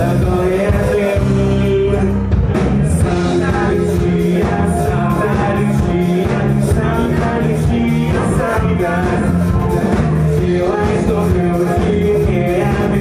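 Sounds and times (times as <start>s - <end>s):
drums: 0.0s - 13.0s
electric guitar: 0.0s - 13.0s
keyboard: 0.0s - 13.0s
man singing: 0.0s - 13.0s.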